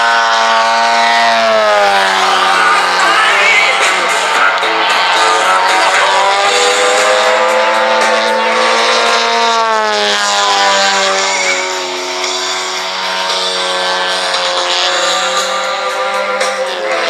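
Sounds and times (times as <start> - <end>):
model airplane engine running hard: 0.0 - 17.0.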